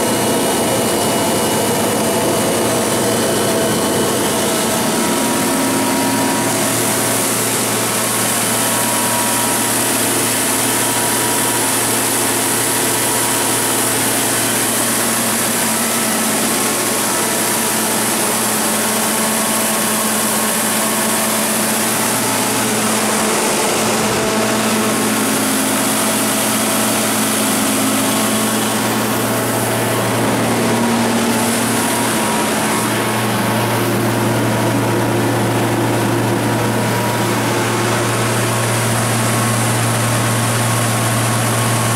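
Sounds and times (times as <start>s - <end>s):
generator engine droning: 0.0s - 41.9s.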